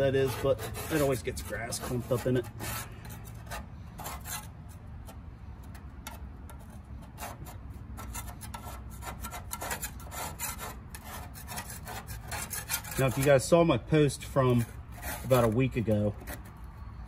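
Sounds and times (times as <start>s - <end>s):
scraper scraping grass off metal: 0.0s - 16.7s.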